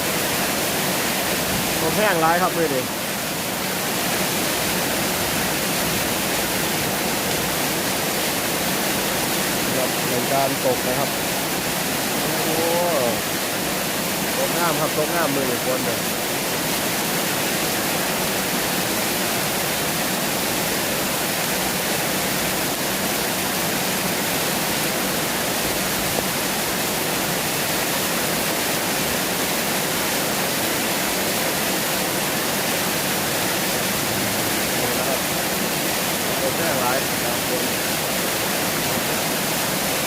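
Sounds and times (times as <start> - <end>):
rain falling steadily: 0.0 - 40.0.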